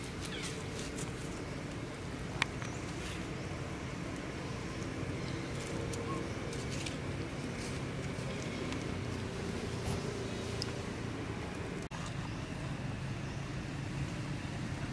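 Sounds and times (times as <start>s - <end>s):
low outdoor rumble: 0.0s - 14.9s.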